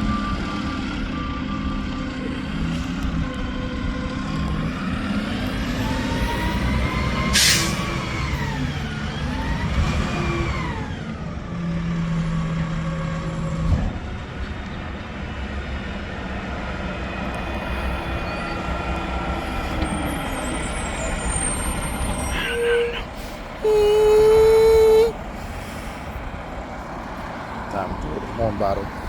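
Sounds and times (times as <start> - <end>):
garbage truck engine running: 0.2 - 24.0.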